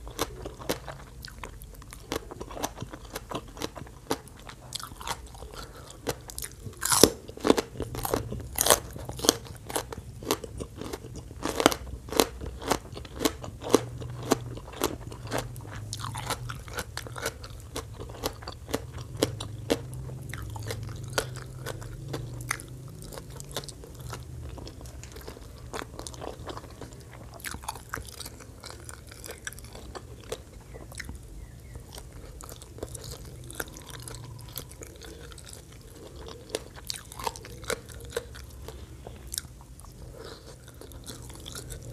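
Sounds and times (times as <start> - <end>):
crunching and chewing vegetables: 0.0 - 41.9.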